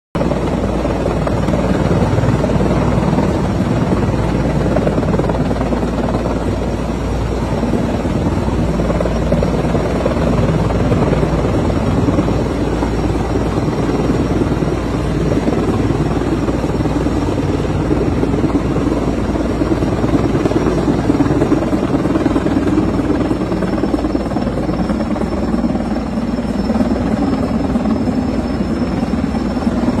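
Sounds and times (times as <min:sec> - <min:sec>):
helicopter rotor drone: 0:00.2 - 0:30.0
thin high whine: 0:04.7 - 0:30.0.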